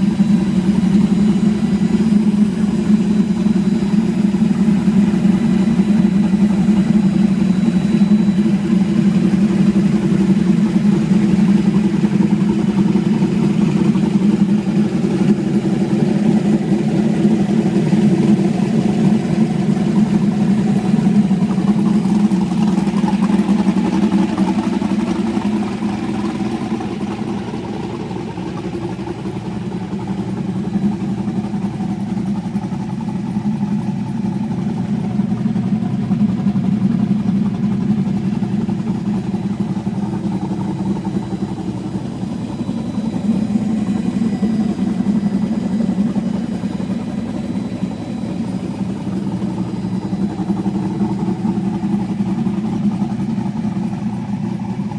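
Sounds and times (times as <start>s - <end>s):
race car engine idling: 0.0s - 54.9s.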